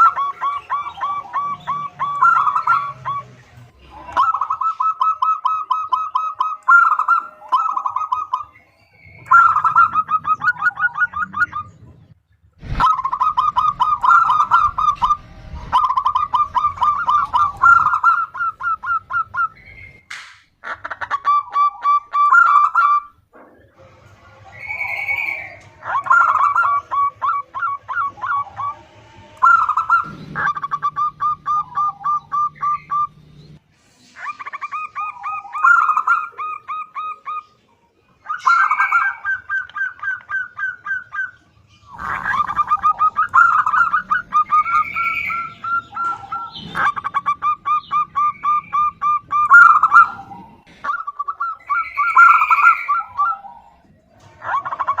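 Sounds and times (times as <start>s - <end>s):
zebra dove cooing: 0.0s - 12.0s, 12.6s - 19.9s, 20.6s - 33.2s, 34.2s - 37.6s, 38.2s - 55.0s.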